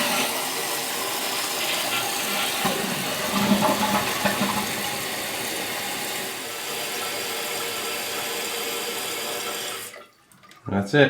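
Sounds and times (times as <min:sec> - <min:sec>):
toilet tank refilling hiss: 0:00.0 - 0:10.5
toilet water gurgling: 0:00.0 - 0:10.8.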